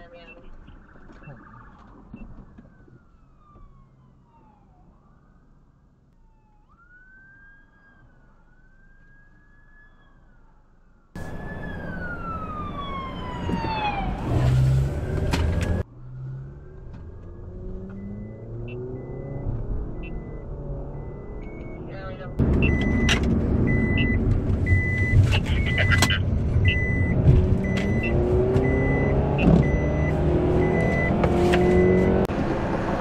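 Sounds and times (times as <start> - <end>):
police sirens wailing: 0.3 - 32.3.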